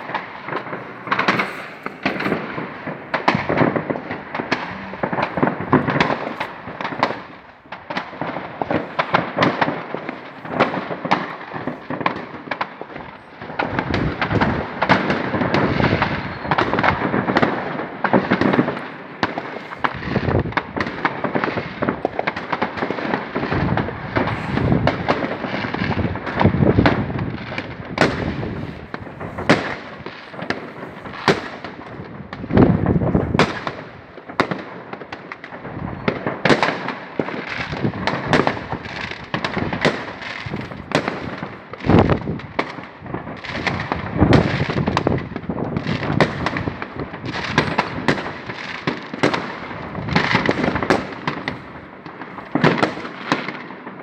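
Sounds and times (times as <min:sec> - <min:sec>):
firecrackers crackling and popping: 0:00.0 - 0:54.0
fireworks booming: 0:00.0 - 0:54.0.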